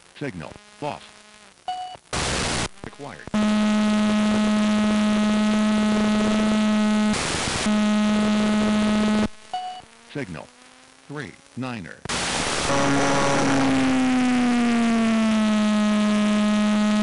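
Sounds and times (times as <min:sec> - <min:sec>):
radio static burst: 0:00.0 - 0:17.0
electrical buzz: 0:02.1 - 0:17.0.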